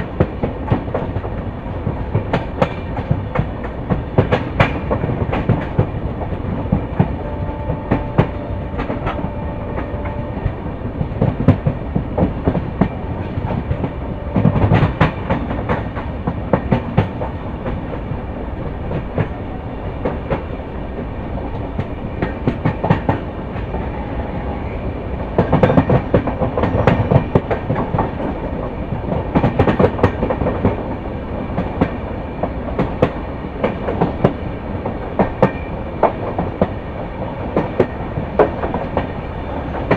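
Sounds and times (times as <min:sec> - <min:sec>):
train coaches rumbling on track: 0:00.0 - 0:39.9.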